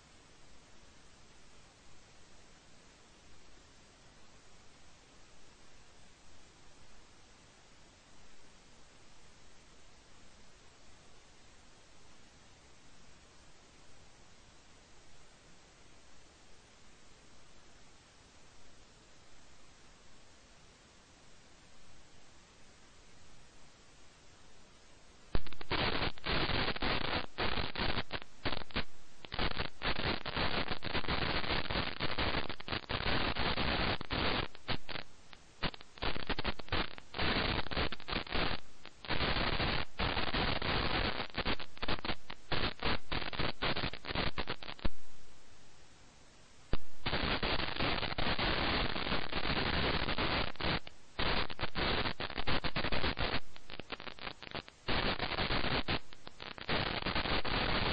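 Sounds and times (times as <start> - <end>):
harsh static hiss: 0.0 - 57.9.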